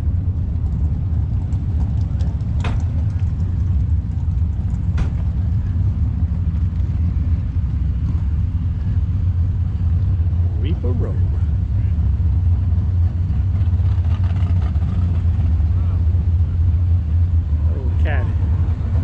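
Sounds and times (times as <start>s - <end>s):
vehicle engines rumbling: 0.0s - 19.0s.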